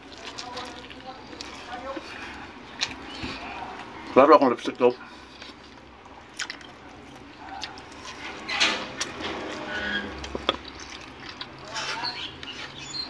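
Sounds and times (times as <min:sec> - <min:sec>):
wet mouth eating sounds: 0:00.0 - 0:04.2, 0:05.0 - 0:13.0.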